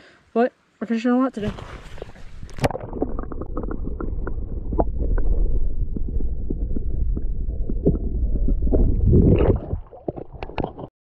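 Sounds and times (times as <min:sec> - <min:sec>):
muffled underwater stream rumble: 0:01.6 - 0:10.9.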